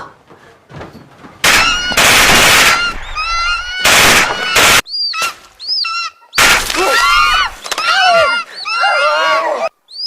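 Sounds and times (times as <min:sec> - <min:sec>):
birds screeching: 0:01.4 - 0:10.0.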